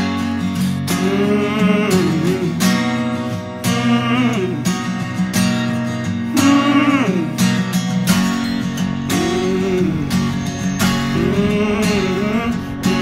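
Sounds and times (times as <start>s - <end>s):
strummed acoustic guitar song: 0.0s - 13.0s.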